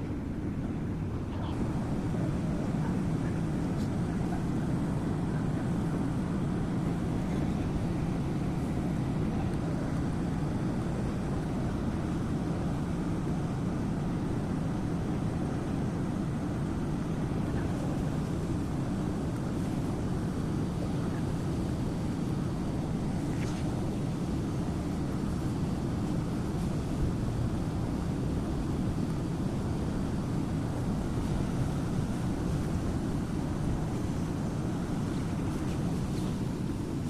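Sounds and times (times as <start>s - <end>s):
diesel engine low rumble: 0.0s - 37.0s.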